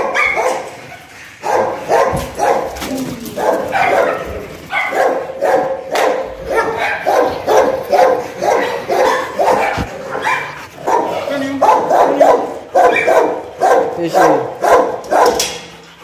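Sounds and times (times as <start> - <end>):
dog barking: 0.0 - 15.7.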